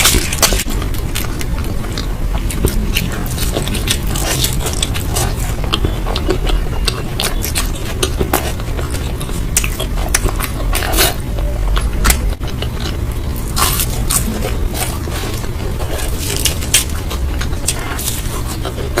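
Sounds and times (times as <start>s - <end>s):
food crackling: 0.0s - 19.0s
person chewing food: 0.0s - 19.0s.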